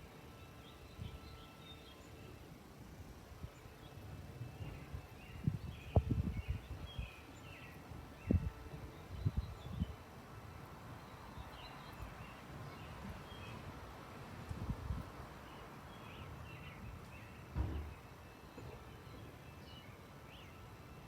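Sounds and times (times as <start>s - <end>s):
steady background hiss: 0.0s - 21.0s
small birds chirping: 3.5s - 21.0s.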